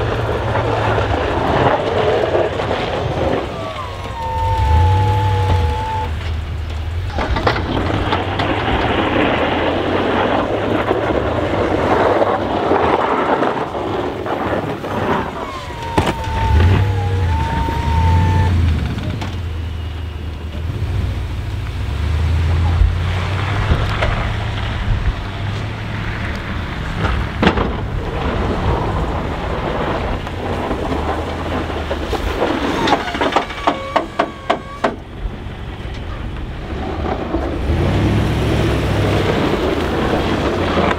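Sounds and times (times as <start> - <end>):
plow pushing snow rush: 0.0 - 40.9
truck engine low hum: 0.0 - 40.9.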